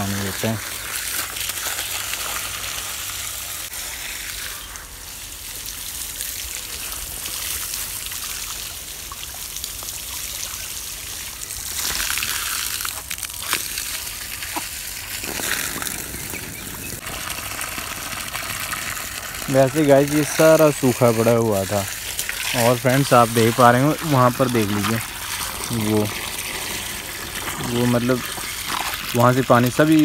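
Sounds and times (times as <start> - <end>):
hose water splashing on plants: 0.0 - 30.0.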